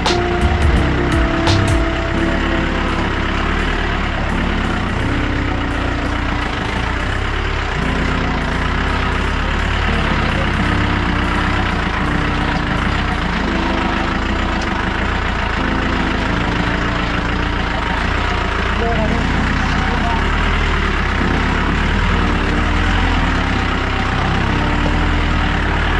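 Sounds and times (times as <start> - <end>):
off-road vehicle engine running: 0.0 - 25.9.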